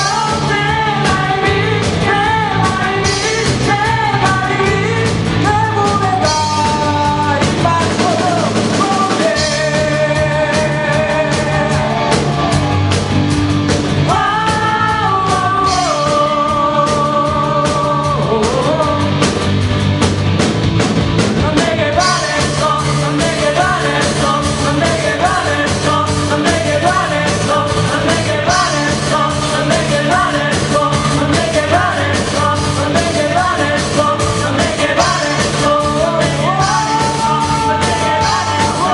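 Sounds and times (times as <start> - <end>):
drums: 0.0 - 38.9
rock band playing live: 0.0 - 38.9.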